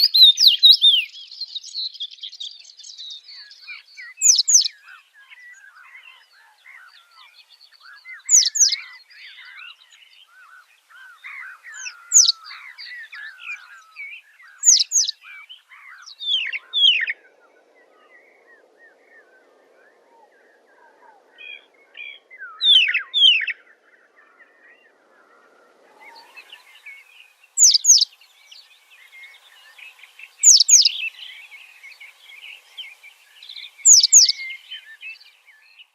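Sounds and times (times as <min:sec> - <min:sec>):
birds chirping and chattering: 0:00.0 - 0:35.9.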